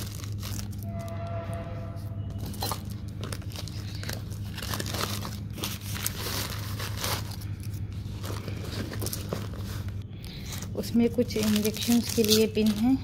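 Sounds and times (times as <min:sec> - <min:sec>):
plastic wrapping crinkling: 0:00.0 - 0:01.1, 0:02.3 - 0:13.0
steady low hum: 0:00.0 - 0:13.0
fabric bag rustling: 0:02.3 - 0:13.0.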